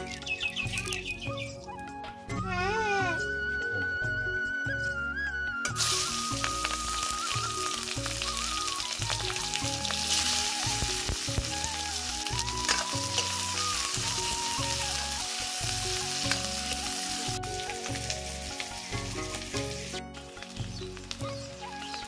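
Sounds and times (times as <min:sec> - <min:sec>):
onions sizzling in oil: 0:00.0 - 0:01.4, 0:05.6 - 0:22.0.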